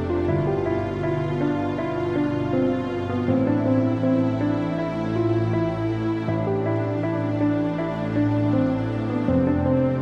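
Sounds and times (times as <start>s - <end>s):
calm instrumental music: 0.0s - 10.0s.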